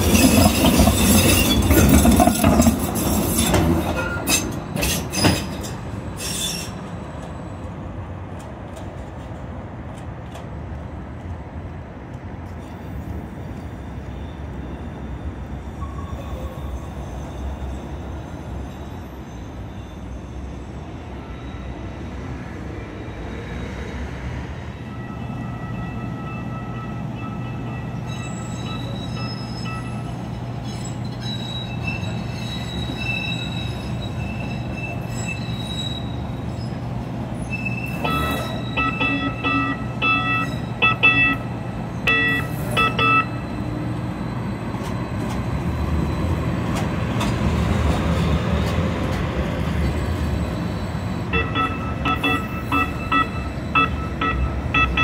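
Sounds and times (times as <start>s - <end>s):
light rail train passing: 0.0s - 55.0s.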